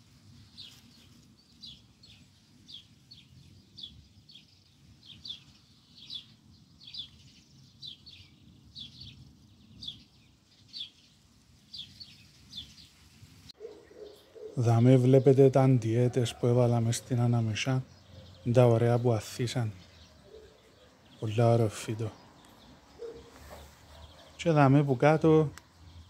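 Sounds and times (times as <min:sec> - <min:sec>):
small bird chirping: 0:00.0 - 0:15.6, 0:17.0 - 0:26.0.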